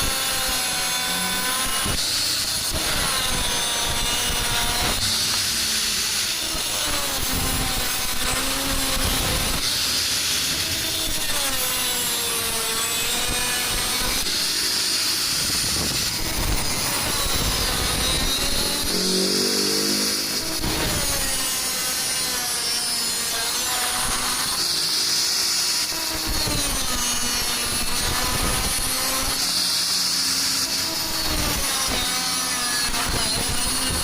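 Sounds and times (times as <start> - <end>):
hand saw cutting steel tube: 0.0 - 34.0.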